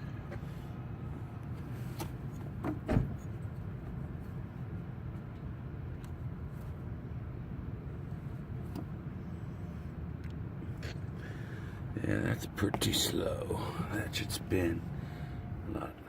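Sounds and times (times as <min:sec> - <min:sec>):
low rumble of vehicle: 0:00.0 - 0:16.0.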